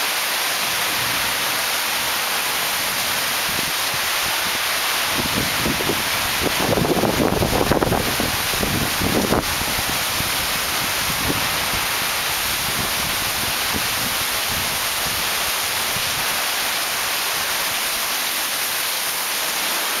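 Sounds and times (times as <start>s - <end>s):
heavy rain on foliage and paving: 0.0s - 20.0s.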